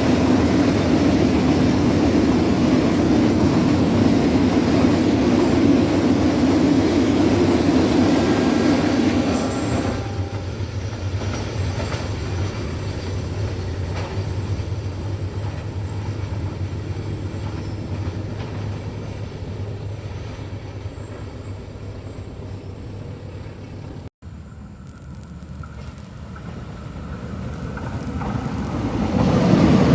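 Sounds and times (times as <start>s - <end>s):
passenger train rumbling past: 0.0s - 29.9s.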